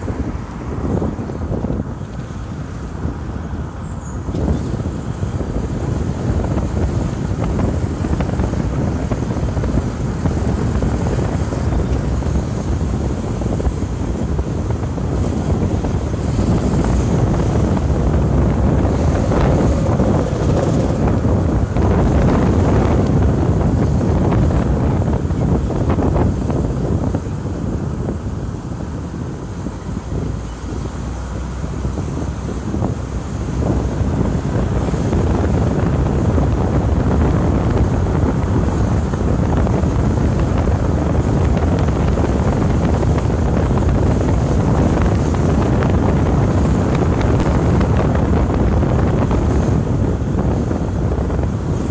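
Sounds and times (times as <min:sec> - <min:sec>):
car driving: 0:00.0 - 0:51.9
wind buffeting the microphone: 0:00.0 - 0:51.9.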